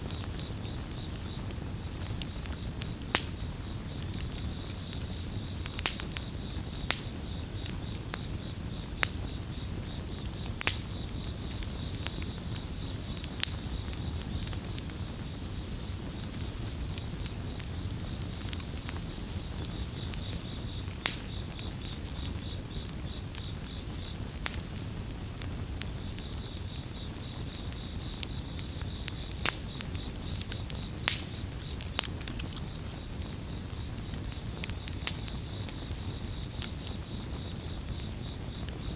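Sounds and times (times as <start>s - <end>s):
campfire crackling and popping: 0.0s - 38.9s
crickets chirping: 0.1s - 38.9s.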